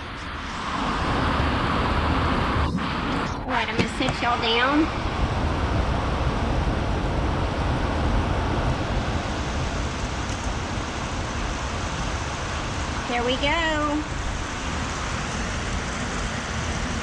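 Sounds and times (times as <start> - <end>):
deep rumble: 0.0 - 17.0
heavy rain on a greenhouse: 0.0 - 17.0
wind: 0.0 - 17.0.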